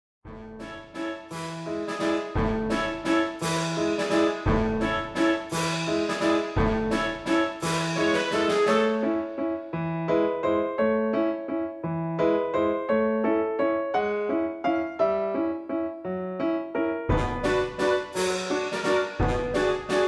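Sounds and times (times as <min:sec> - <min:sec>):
piano music: 0:00.3 - 0:20.0.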